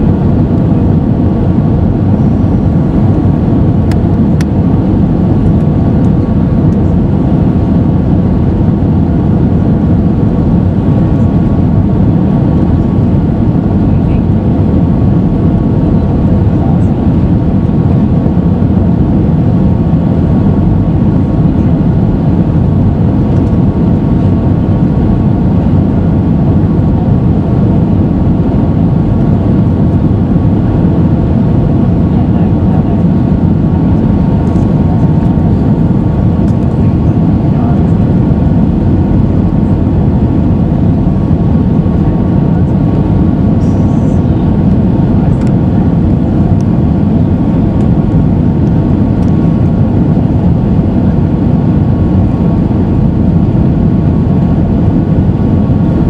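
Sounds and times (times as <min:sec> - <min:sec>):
aircraft cabin rumble: 0:00.0 - 0:56.0.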